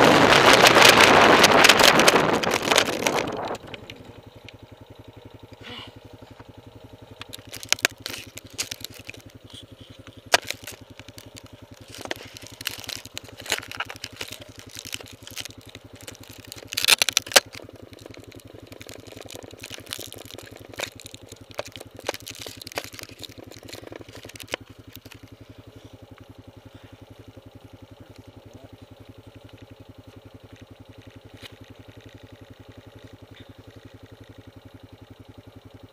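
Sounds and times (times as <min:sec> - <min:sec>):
crackles and clicks: 0:00.0 - 0:05.6, 0:06.2 - 0:35.7
quad engine idling: 0:00.0 - 0:35.9.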